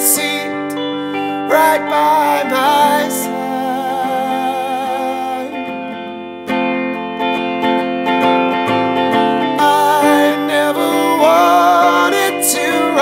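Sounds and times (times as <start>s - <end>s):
person singing with vibrato: 0.0s - 6.4s, 8.7s - 13.0s
electric guitar strumming chords: 0.0s - 13.0s.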